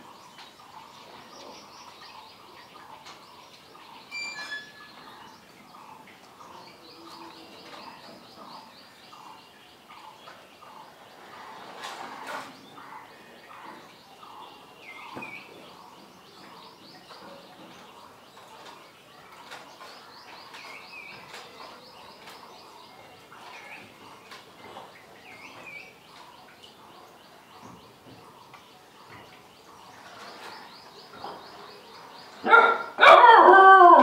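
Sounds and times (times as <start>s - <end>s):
small birds chirping: 0.0s - 33.1s.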